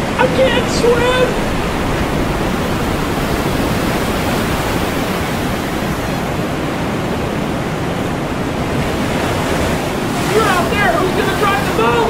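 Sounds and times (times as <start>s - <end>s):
surf: 0.0s - 12.0s
wind rushing: 0.0s - 12.0s.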